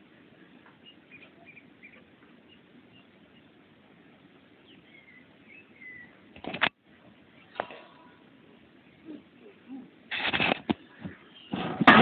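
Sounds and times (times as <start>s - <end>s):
small birds chirping: 0.0s - 10.0s, 10.8s - 11.6s
low steady hiss: 0.0s - 12.0s.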